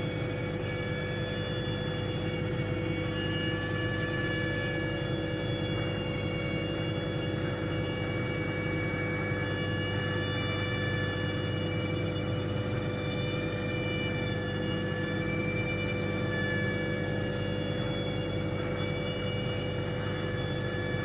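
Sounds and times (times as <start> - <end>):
microwave humming: 0.0 - 21.0.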